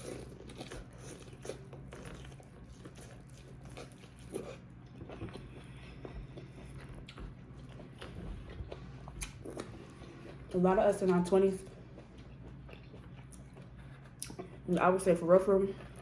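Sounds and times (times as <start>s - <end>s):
person chewing food: 0.0s - 14.7s, 15.8s - 16.0s
steady low hum: 0.0s - 16.0s.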